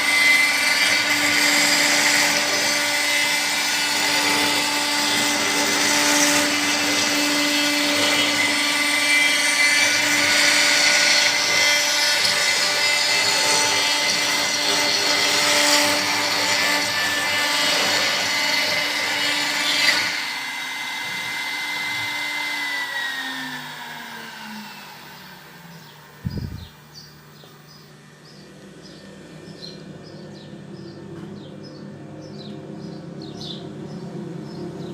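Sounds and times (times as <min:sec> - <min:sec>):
cutting noise: 0:00.0 - 0:31.0
router spindle whining: 0:00.0 - 0:34.9.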